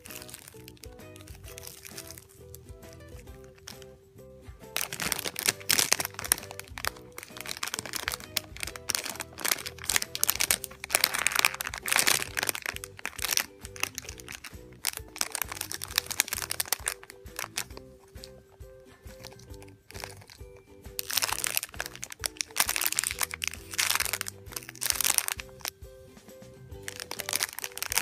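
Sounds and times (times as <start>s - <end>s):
plastic bags crinkling: 0.0s - 3.9s, 4.7s - 18.4s, 19.1s - 25.7s, 26.8s - 28.0s
background music: 0.0s - 28.0s.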